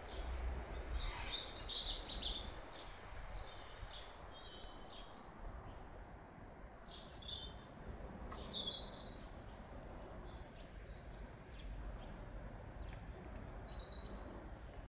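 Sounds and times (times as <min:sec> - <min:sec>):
low outdoor rumble: 0:00.0 - 0:14.9
songbirds chirping: 0:00.0 - 0:14.9.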